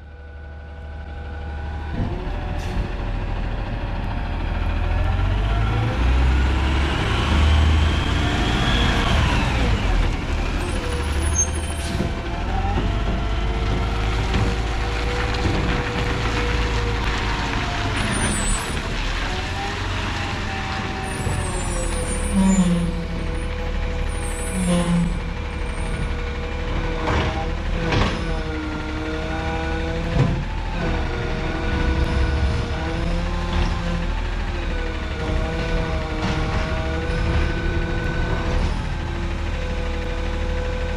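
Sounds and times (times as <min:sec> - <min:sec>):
diesel engine revving: 0:00.3 - 0:40.9.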